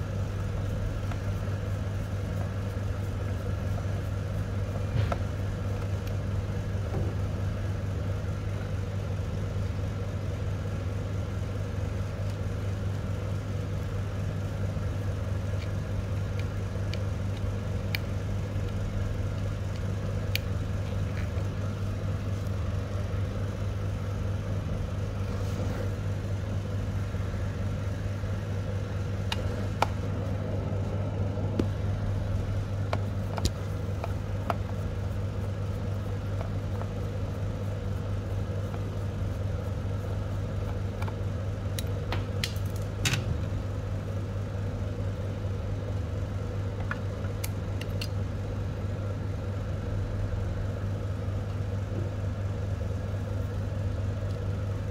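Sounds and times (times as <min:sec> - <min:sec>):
copier mechanical hum: 0:00.0 - 0:54.9.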